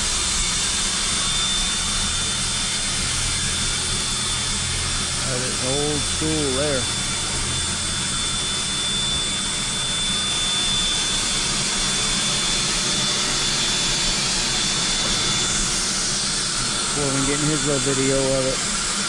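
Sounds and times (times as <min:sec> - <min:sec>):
escaping steam hissing: 0:00.0 - 0:19.0
thin high whine: 0:00.0 - 0:19.0.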